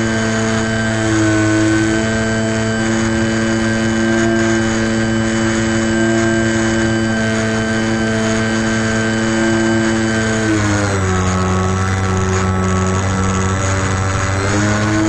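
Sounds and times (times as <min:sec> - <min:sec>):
model airplane motor humming: 0:00.0 - 0:15.0.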